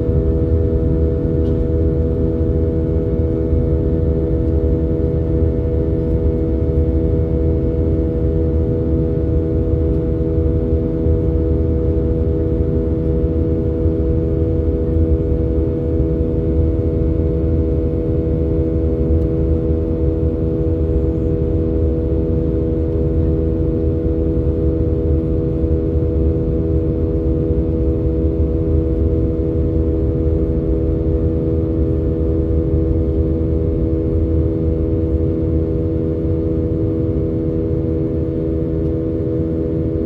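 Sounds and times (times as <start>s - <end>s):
airplane cabin engine roar: 0.0s - 40.0s.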